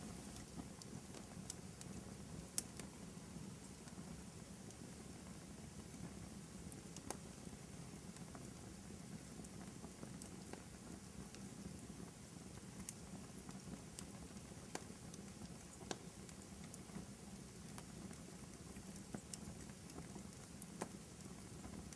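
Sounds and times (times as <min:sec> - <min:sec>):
fire popping and crackling: 0:00.0 - 0:21.9
wood fire hissing and rumbling: 0:00.0 - 0:21.9.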